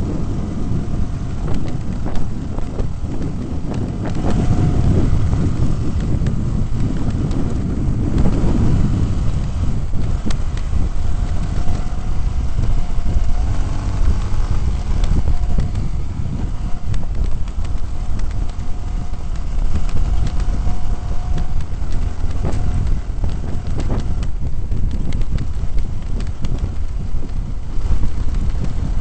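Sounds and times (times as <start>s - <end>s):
vehicle engine rumble: 0.0s - 29.0s
wind buffeting microphone: 0.0s - 29.0s.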